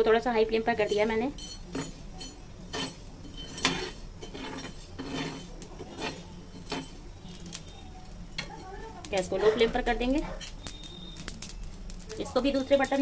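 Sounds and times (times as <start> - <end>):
steel spoon scraping a griddle: 0.4 - 13.0.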